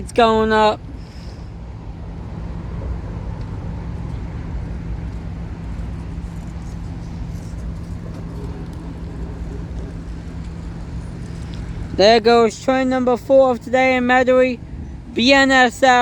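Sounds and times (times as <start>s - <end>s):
constant low hum: 0.0s - 16.0s
low rumble of vehicles: 0.0s - 16.0s.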